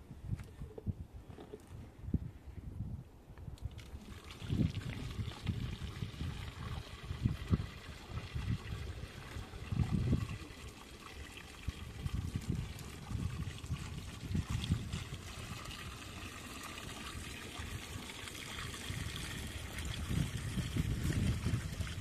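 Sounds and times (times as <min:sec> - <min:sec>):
water pouring into plastic bottle: 0:03.6 - 0:22.0.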